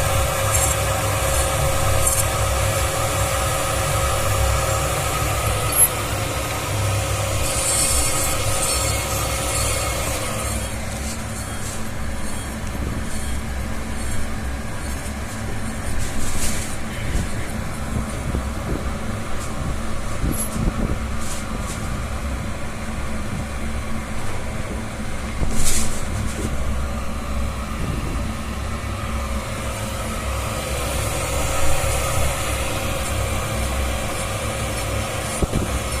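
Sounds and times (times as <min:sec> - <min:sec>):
milling machine hum and whir: 0:00.0 - 0:36.0.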